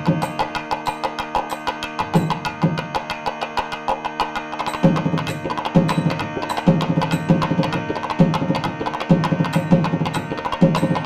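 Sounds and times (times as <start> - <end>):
steady held drone: 0.0 - 11.0.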